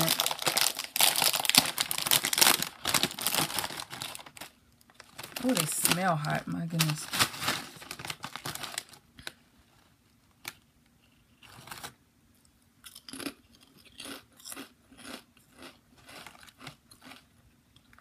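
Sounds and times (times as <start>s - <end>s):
potato chips crunching: 0.0s - 9.4s, 12.8s - 18.0s.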